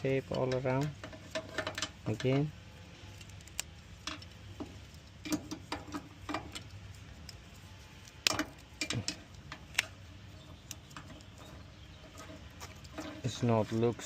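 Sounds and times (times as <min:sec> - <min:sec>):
clicks and taps handling wire: 0:00.0 - 0:14.0
low steady background hum: 0:00.0 - 0:14.0.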